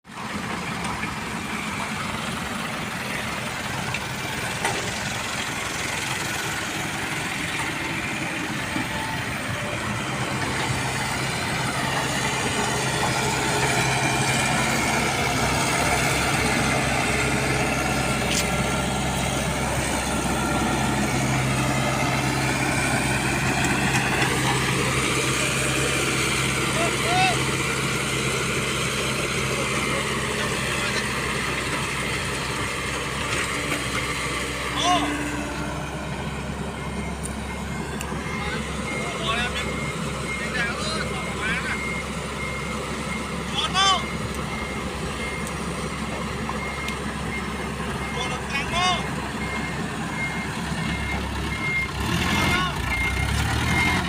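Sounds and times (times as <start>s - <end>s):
truck engine humming: 0.0s - 54.0s.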